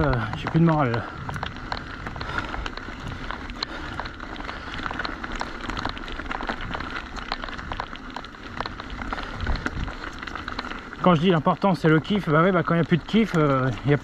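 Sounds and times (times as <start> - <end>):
bike clicking and rattling: 0.0 - 14.0
tyres crunching over stones: 0.0 - 14.0.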